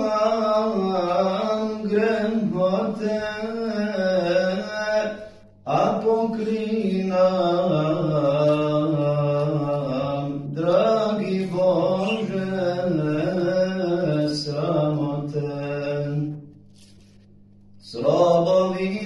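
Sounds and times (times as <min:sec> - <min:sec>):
man chanting religious recitation: 0:00.0 - 0:16.5, 0:17.8 - 0:19.0.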